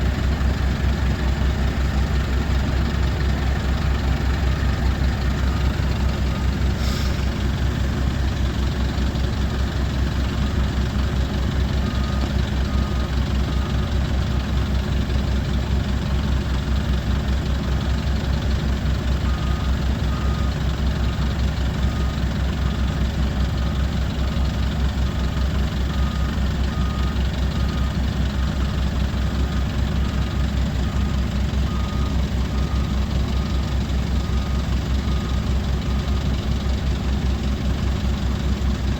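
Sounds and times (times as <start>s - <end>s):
large truck engine running: 0.0s - 38.9s.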